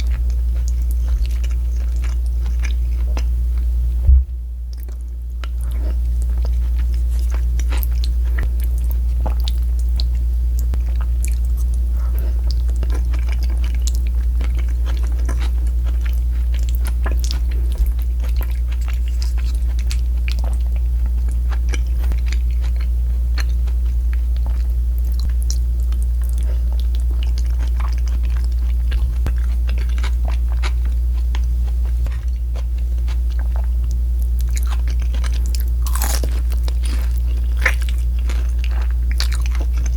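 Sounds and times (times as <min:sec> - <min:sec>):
crunchy chewing: 0:00.0 - 0:03.7, 0:04.7 - 0:39.9
steady low hum: 0:00.0 - 0:39.9.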